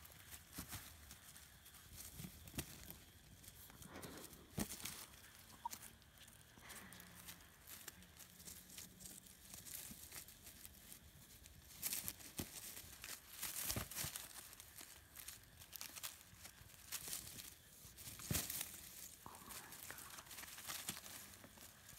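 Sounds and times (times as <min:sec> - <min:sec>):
dry leaf litter rustling: 0:00.0 - 0:21.9.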